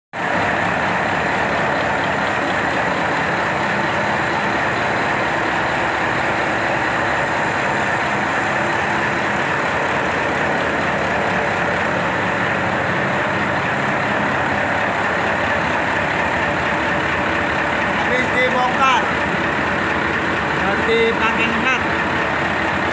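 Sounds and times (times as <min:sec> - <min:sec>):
diesel engine running: 0:00.2 - 0:22.9.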